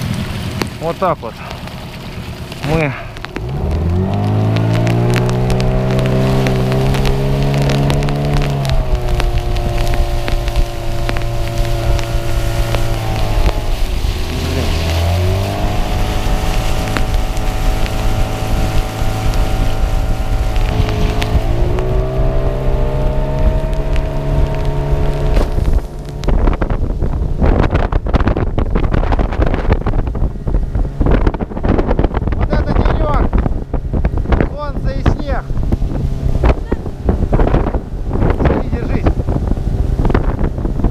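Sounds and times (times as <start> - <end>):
outboard motor running: 0.0 - 32.4, 33.3 - 40.9
wind noise on microphone: 2.6 - 40.9.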